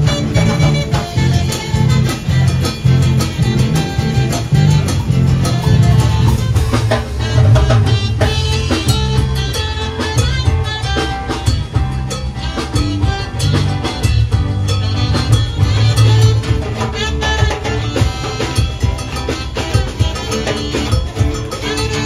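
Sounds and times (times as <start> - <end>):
live latin dance band: 0.0 - 22.0.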